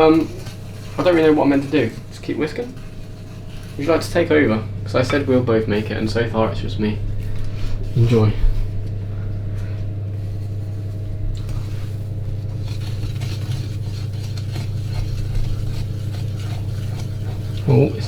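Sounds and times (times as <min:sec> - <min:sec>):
low hum: 0:00.0 - 0:18.0
whisk beating batter in bowl: 0:00.0 - 0:18.0.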